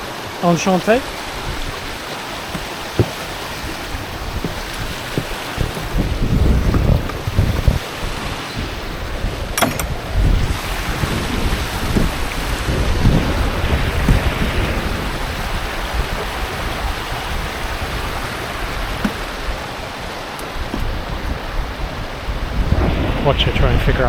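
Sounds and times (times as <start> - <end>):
wind buffeting microphone: 1.0 - 24.0.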